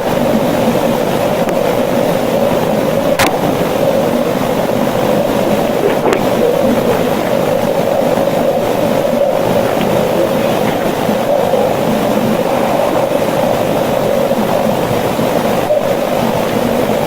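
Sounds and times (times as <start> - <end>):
noisy hum: 0.0 - 17.0.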